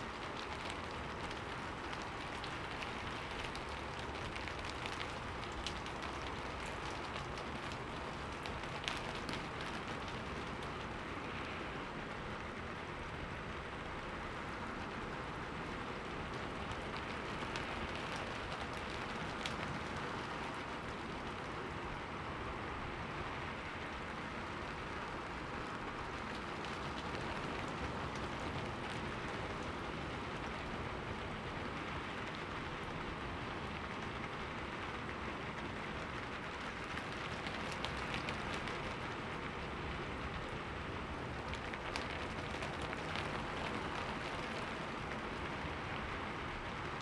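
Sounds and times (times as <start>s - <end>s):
rain on a window: 0.0s - 47.0s.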